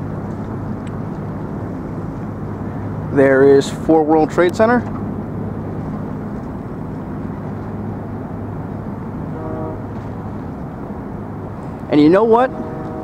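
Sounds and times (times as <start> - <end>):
traffic hum: 0.0 - 13.0.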